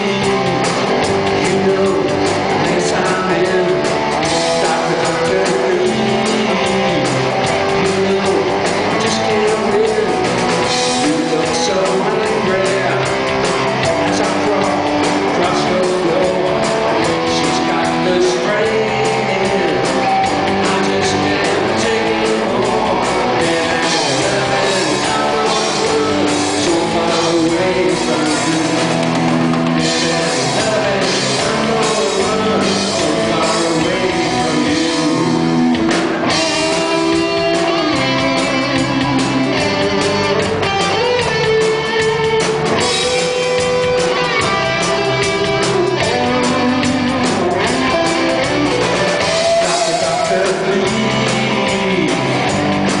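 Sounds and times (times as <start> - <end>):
live rock band playing: 0.0 - 53.0
wavering lead guitar line: 0.0 - 53.0.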